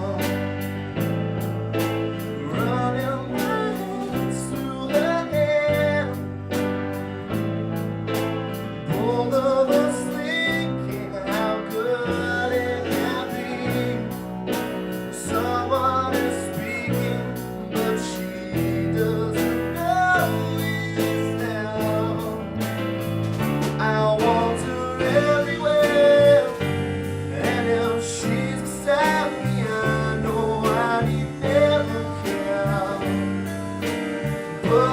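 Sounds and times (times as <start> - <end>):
live band playing: 0.0 - 34.9
person singing: 0.0 - 34.9.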